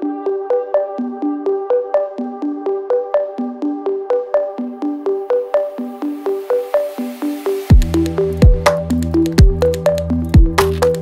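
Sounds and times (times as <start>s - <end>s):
synth plucked notes pattern: 0.0s - 11.0s.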